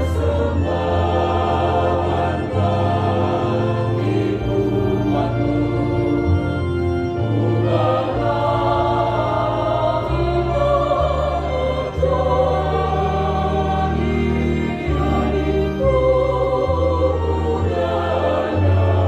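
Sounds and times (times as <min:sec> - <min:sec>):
choir singing in harmony: 0:00.0 - 0:19.0
held bass notes: 0:00.0 - 0:19.0.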